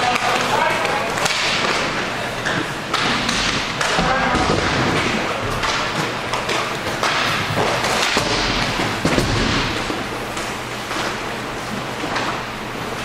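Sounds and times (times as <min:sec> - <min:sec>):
hockey sticks and puck knocking: 0:00.0 - 0:11.2.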